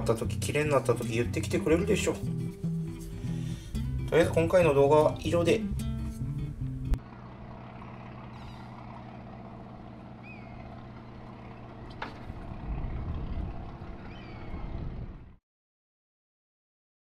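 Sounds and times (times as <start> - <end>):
engine running: 0.0 - 15.4.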